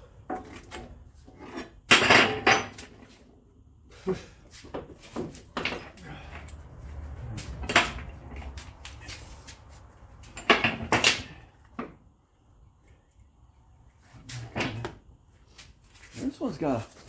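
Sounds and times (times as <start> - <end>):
hand tools and car parts clanking: 0.0 - 12.2, 12.8 - 17.0.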